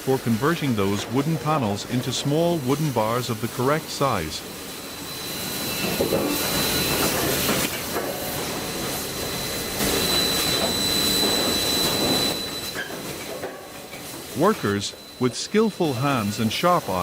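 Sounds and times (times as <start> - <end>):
sawing machine cutting wood: 0.0 - 17.0
thin high whine: 0.2 - 17.0.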